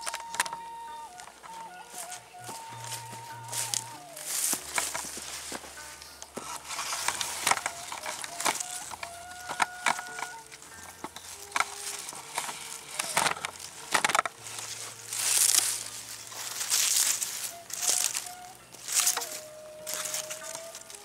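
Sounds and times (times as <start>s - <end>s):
grass rustling: 0.0s - 21.0s.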